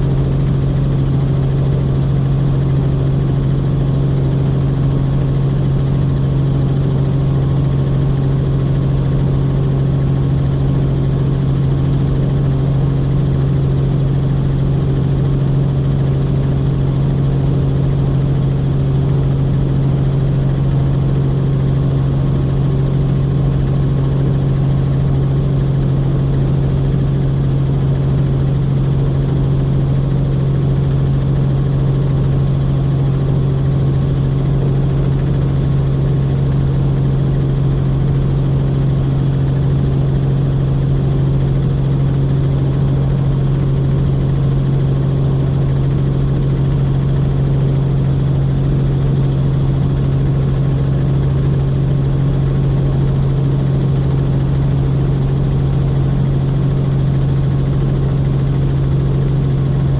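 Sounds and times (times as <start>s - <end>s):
helicopter rotor and turbine drone: 0.0s - 59.9s.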